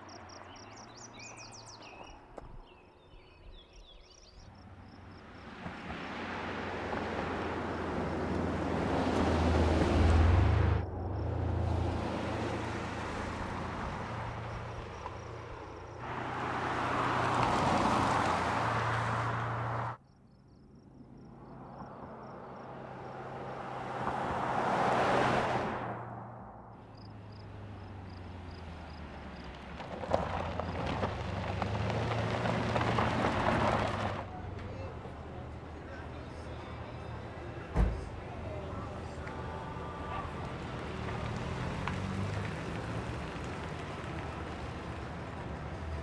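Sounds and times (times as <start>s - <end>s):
car engine passing: 4.6s - 20.0s, 21.0s - 46.0s.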